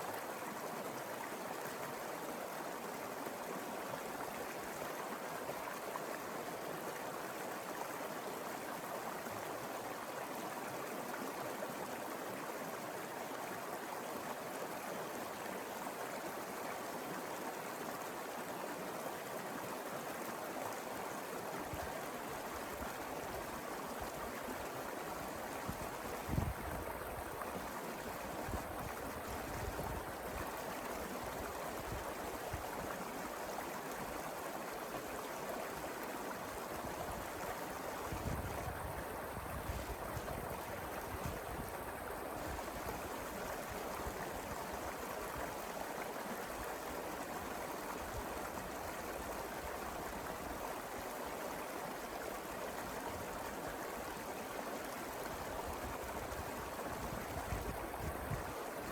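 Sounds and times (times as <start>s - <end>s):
mountain river flowing: 0.0s - 58.9s.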